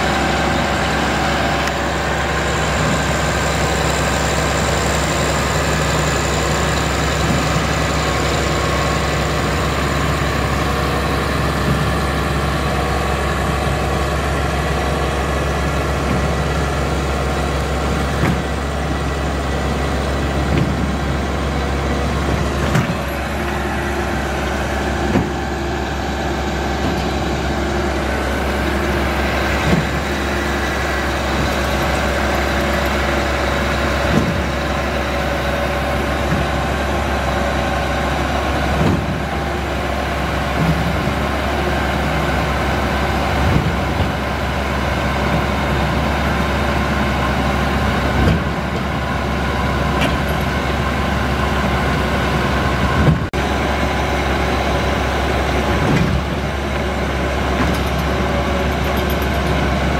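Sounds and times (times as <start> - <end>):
tractor diesel engines under load: 0.0 - 59.9.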